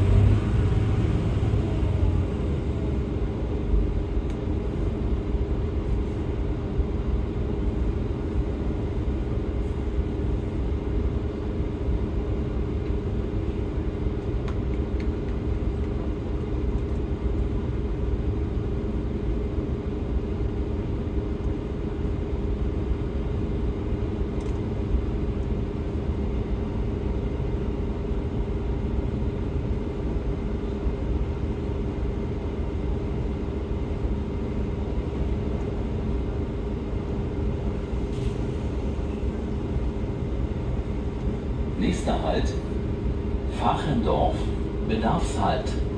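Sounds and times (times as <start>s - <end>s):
diesel train engine rumble: 0.0s - 45.9s
steady hum: 0.0s - 45.9s.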